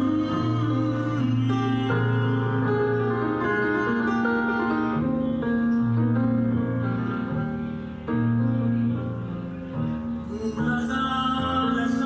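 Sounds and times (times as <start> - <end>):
instrumental music held notes: 0.0 - 12.0.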